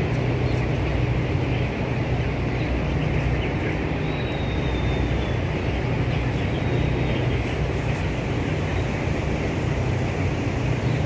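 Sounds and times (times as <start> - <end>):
ventilation fans humming: 0.0 - 11.0.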